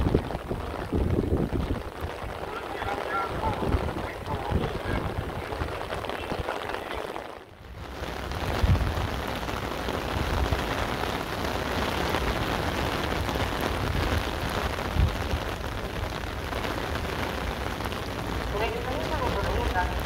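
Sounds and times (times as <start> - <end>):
rain on wet paving: 0.0 - 20.0.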